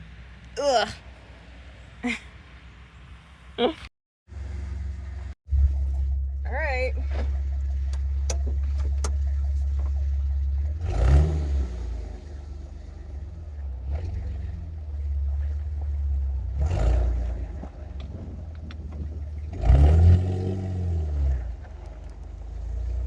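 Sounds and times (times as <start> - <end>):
car engine rumbling and revving: 4.3 - 23.0.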